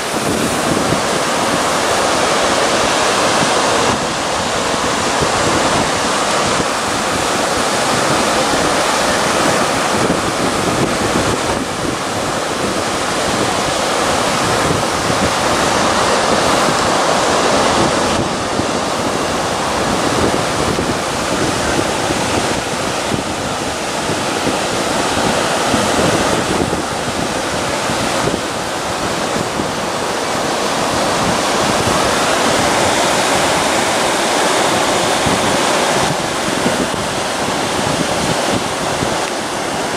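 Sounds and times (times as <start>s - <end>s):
sea surf rushing: 0.0s - 39.9s
wind on microphone: 0.0s - 39.9s.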